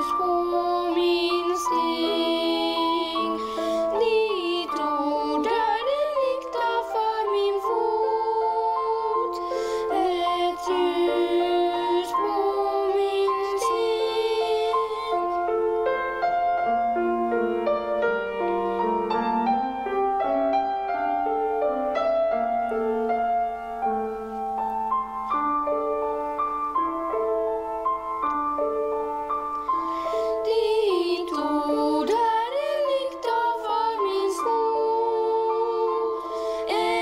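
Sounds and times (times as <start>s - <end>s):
slow grand piano piece: 0.0s - 37.0s.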